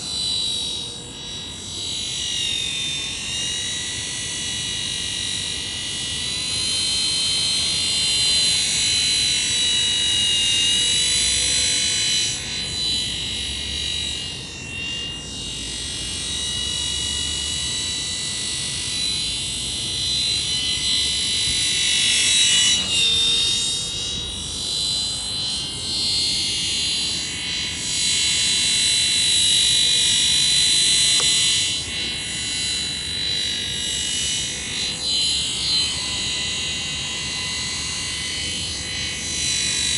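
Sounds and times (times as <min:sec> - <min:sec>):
model helicopter whine: 0:00.0 - 0:39.9.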